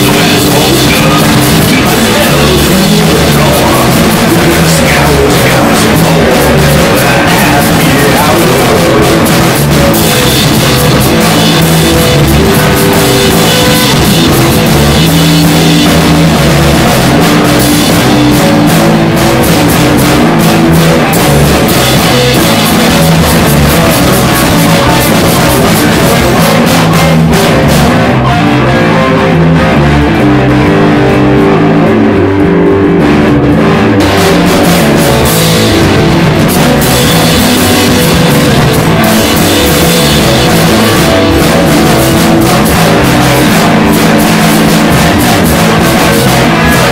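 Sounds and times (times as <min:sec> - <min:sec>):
drum kit: 0:00.0 - 0:46.9
electric guitar: 0:00.0 - 0:46.9.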